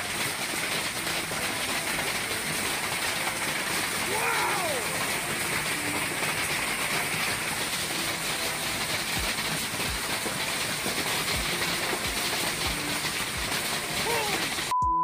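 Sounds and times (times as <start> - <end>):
wind-driven hail roaring: 0.0 - 14.7.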